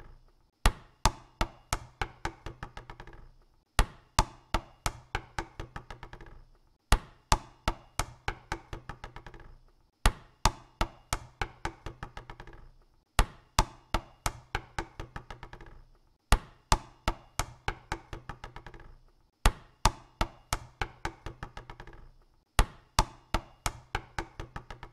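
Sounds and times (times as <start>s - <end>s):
basketball bouncing on hard court: 0.6s - 24.9s.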